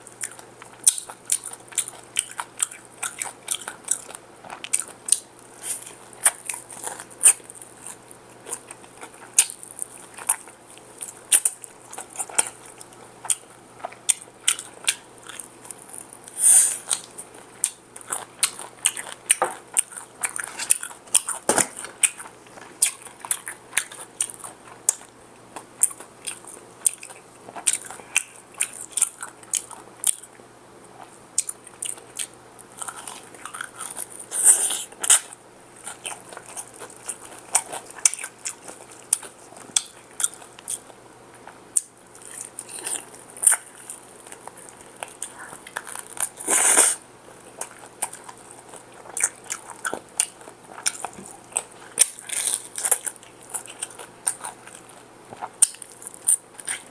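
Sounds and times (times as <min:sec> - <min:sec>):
crunchy chewing of fried chicken: 0:00.0 - 0:56.9.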